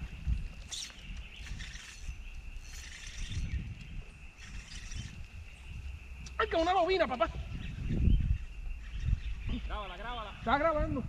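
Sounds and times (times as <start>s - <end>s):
hissing rustles: 0.0s - 10.0s
high insect drone: 0.0s - 11.0s
wind rumbling on microphone: 0.0s - 11.0s.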